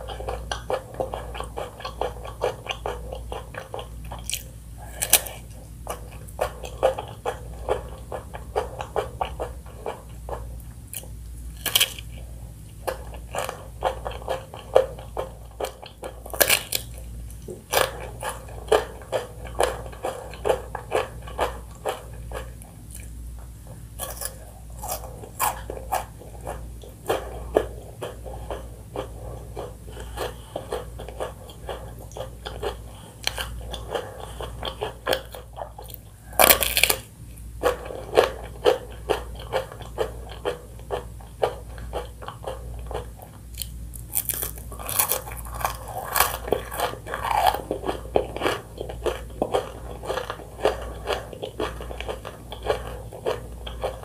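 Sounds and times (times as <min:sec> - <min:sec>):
crunchy biting and chewing: 0:00.0 - 0:54.0.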